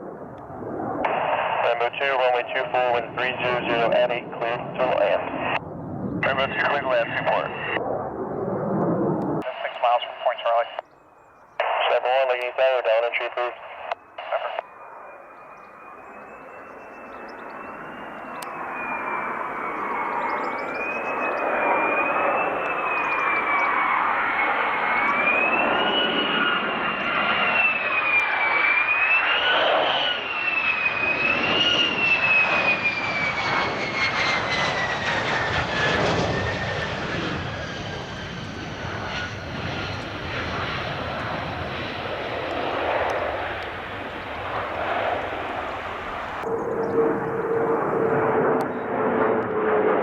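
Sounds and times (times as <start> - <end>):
jet engine high whine: 0.0 - 50.0.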